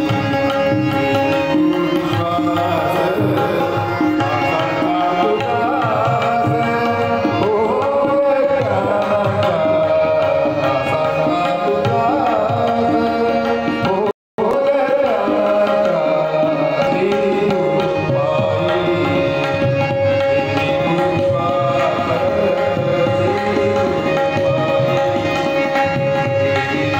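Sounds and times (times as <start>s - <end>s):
harmonium melody: 0.0s - 26.9s
tabla drumming: 0.0s - 26.9s.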